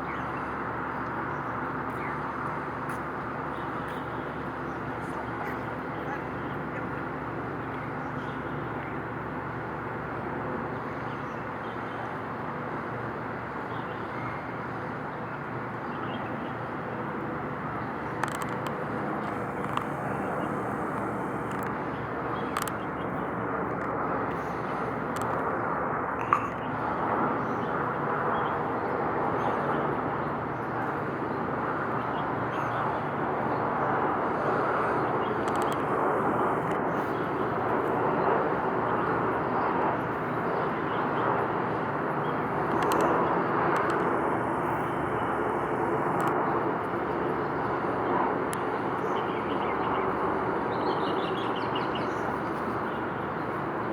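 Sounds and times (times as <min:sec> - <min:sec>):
outdoor hum and rumble: 0:00.0 - 0:53.9.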